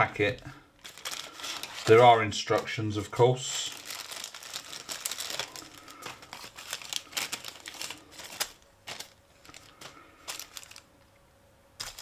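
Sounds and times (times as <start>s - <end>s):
plastic packet crinkling: 0.0s - 11.0s, 11.8s - 12.0s.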